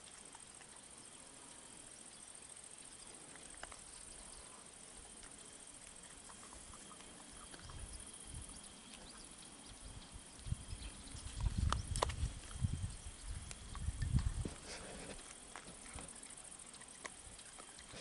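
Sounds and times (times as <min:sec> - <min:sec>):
high insect trill: 0:00.0 - 0:18.0
small ticks: 0:00.0 - 0:18.0.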